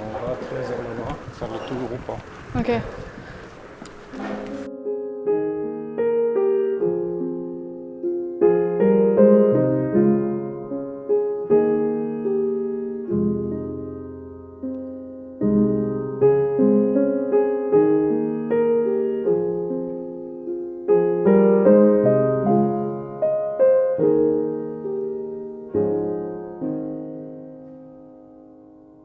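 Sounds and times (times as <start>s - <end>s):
soft solo piano: 0.0s - 29.0s.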